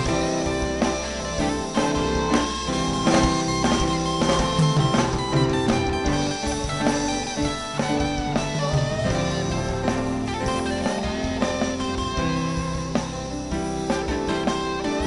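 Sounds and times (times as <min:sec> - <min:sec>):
gospel band instrumental: 0:00.0 - 0:15.0.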